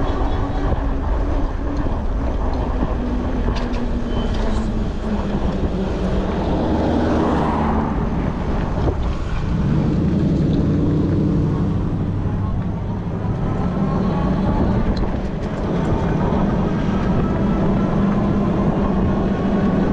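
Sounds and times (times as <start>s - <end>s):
road traffic passing: 0.0s - 19.9s
wind rumble on microphone: 0.0s - 19.9s.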